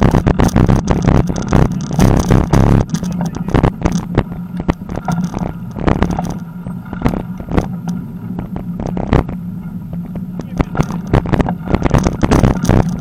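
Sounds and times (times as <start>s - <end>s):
bicycle knocks and rattles: 0.0s - 8.4s, 9.6s - 13.0s
bicycle rolling rumble: 0.0s - 13.0s.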